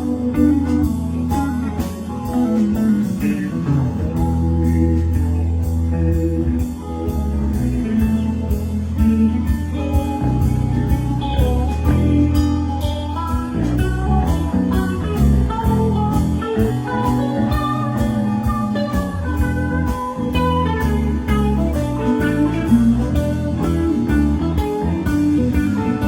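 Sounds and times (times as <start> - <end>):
guitar lines: 0.0 - 26.0
steady drum beat: 0.0 - 26.0
sustained bass: 0.0 - 26.0.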